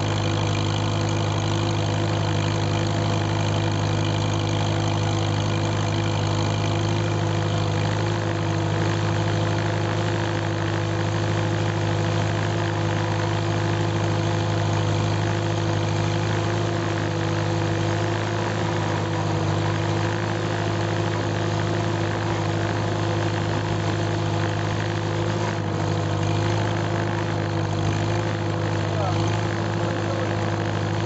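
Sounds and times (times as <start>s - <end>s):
tractor engine running steadily: 0.0s - 31.0s.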